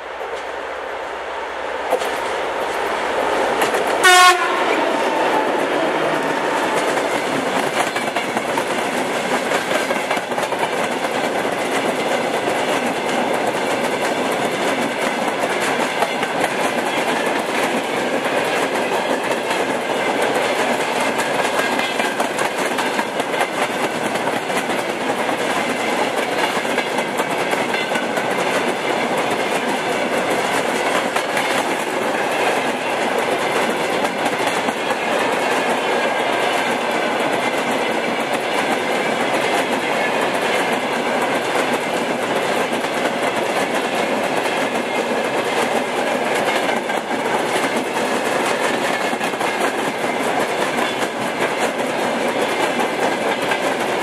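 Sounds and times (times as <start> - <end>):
train wheels rumbling on rails: 0.0 - 54.0
clickety-clack of rails: 0.1 - 0.6, 1.8 - 54.0.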